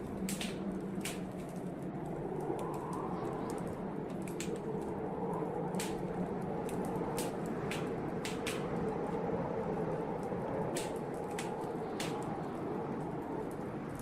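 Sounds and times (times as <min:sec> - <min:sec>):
blizzard wind rushing: 0:00.0 - 0:14.0
wood fire crackling: 0:00.0 - 0:14.0.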